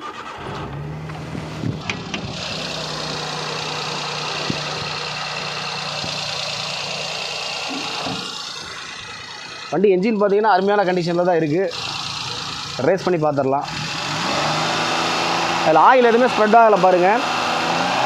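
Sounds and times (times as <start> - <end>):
car engine starting and idling: 0.0 - 18.0.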